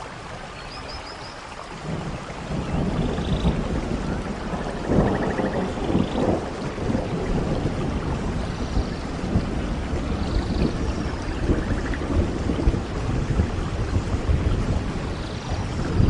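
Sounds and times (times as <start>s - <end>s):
rain falling: 0.0s - 16.0s
low rolling thunder: 1.8s - 16.0s.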